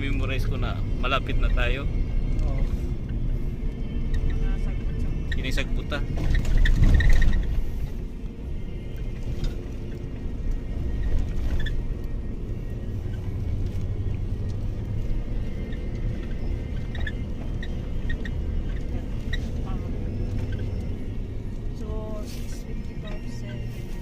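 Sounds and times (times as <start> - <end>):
low road rumble: 0.0 - 24.0
vehicle engine running: 0.0 - 24.0.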